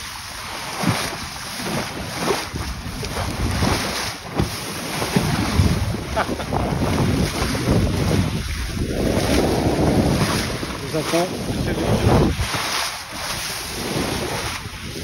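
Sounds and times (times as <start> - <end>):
bow wave splashing: 0.0 - 15.0
wind buffeting microphone: 0.8 - 15.0.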